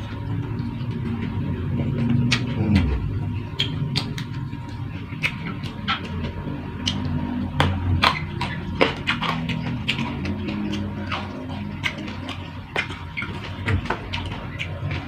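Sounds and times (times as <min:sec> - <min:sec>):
chewing with wet mouth clicks: 0:00.0 - 0:15.0
low background hum: 0:00.0 - 0:15.0.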